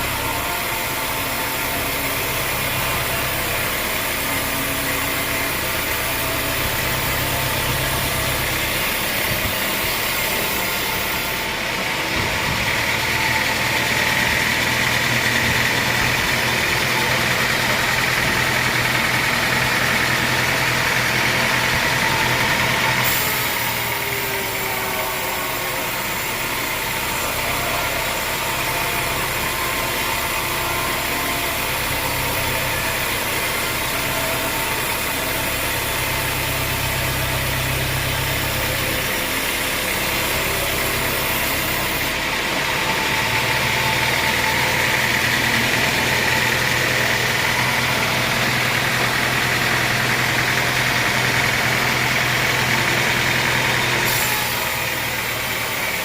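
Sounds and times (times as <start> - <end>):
sawmill engine droning: 0.0 - 56.0.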